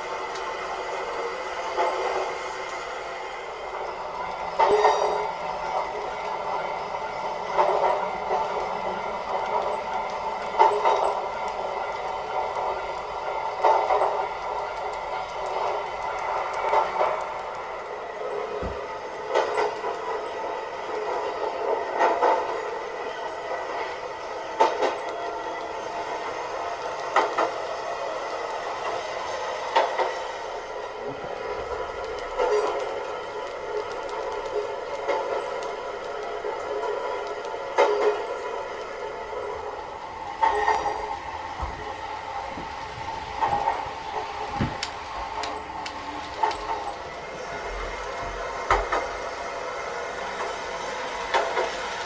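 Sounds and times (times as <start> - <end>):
model train running whir: 0.0 - 52.0
sharp clicks on track: 3.7 - 24.0, 24.6 - 25.8, 26.5 - 39.4, 42.5 - 52.0.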